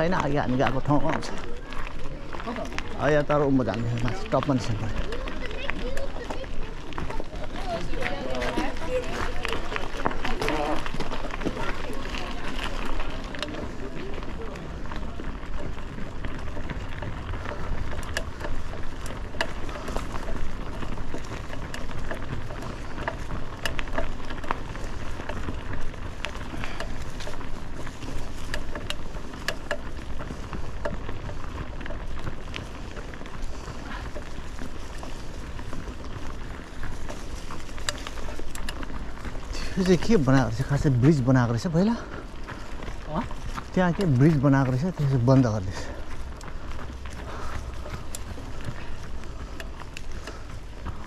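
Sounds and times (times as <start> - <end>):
bicycle clicks and rattles: 0.0 - 51.0
tyres crackling over leaves: 0.0 - 51.0.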